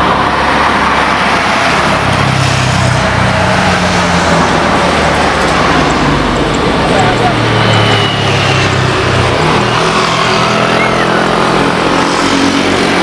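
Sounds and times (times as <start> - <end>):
jet engines at high power: 0.0 - 13.0.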